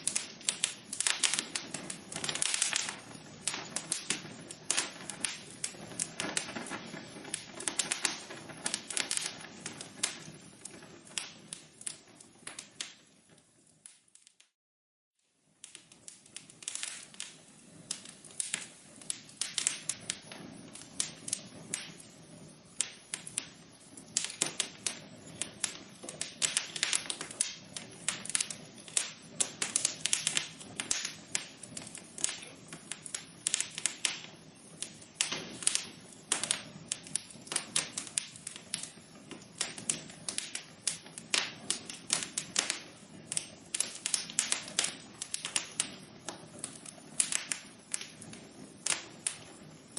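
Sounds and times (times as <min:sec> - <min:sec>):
low rush of flame: 0:00.0 - 0:14.4, 0:15.4 - 0:49.9
wood fire crackling: 0:00.0 - 0:14.6, 0:15.2 - 0:49.9.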